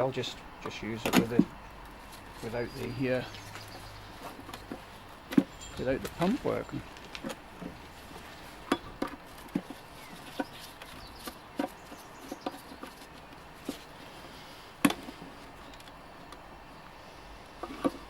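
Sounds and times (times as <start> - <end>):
hand tools clicking and knocking: 0.2 - 16.5, 17.6 - 18.0.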